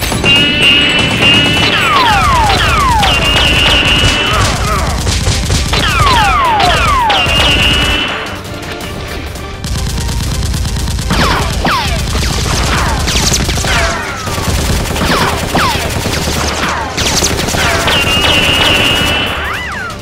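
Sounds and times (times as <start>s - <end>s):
automatic gunfire effects: 0.0s - 8.5s, 9.6s - 19.6s.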